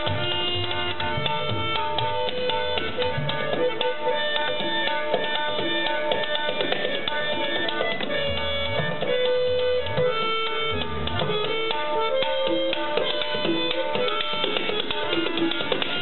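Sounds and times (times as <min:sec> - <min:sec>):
harmonium melody: 0:00.0 - 0:16.0
tabla drumming: 0:00.0 - 0:16.0.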